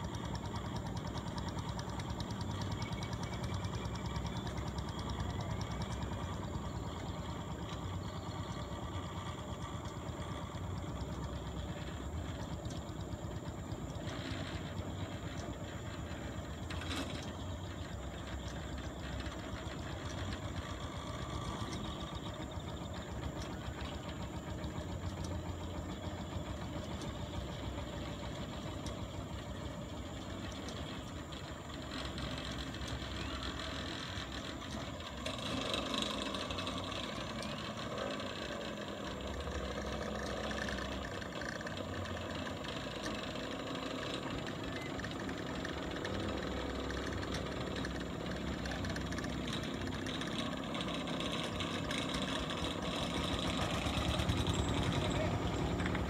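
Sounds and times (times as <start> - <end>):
engine rumbling: 0.0 - 56.0.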